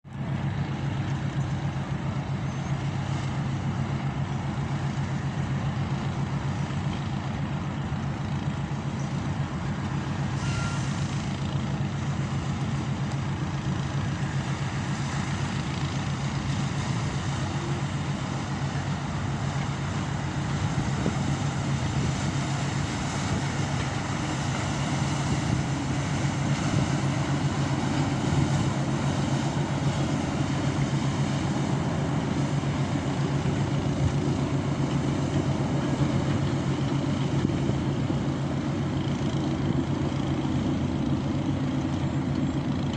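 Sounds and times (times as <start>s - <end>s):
speedboat engine droning: 0.0s - 42.9s.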